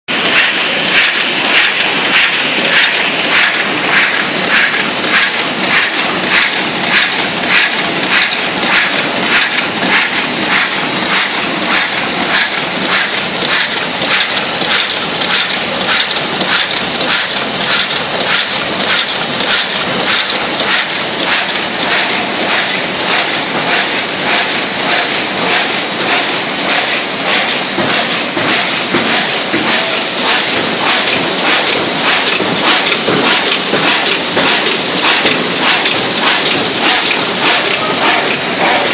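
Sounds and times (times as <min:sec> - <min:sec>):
die-cutting machine stroke: 0:00.1 - 0:38.9
steady machine hiss: 0:00.1 - 0:38.9.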